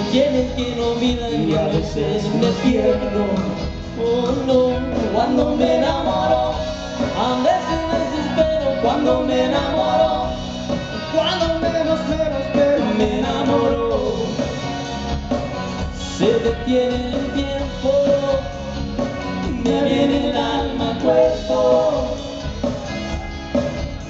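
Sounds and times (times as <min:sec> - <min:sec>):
men singing: 0:00.0 - 0:14.6, 0:16.0 - 0:18.6, 0:19.4 - 0:22.8
acoustic guitar: 0:00.0 - 0:24.0
bass guitar: 0:00.0 - 0:24.0
drums: 0:00.0 - 0:24.0.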